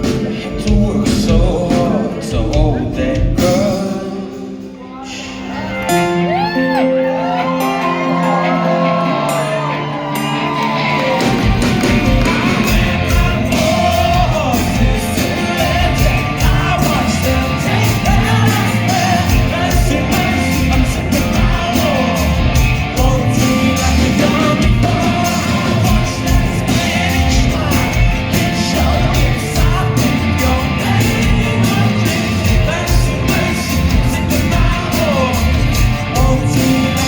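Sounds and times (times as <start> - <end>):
drums and bass: 0.0 - 4.7, 10.2 - 37.0
person singing: 0.0 - 37.0
guitar chords: 4.6 - 37.0.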